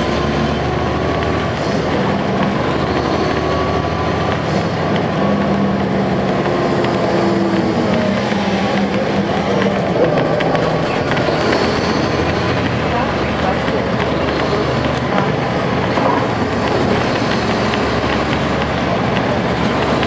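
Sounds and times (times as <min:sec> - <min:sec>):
bus diesel engine idling: 0:00.0 - 0:20.0.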